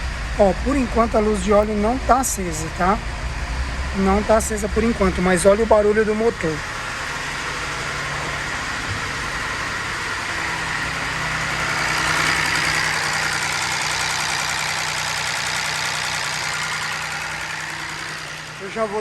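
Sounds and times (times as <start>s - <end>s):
car engine idling with mechanical noise: 0.0s - 19.0s.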